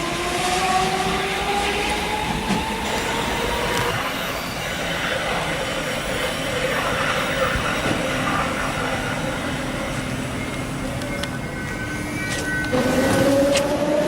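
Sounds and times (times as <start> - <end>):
train wheels rolling on rails: 0.0 - 14.0.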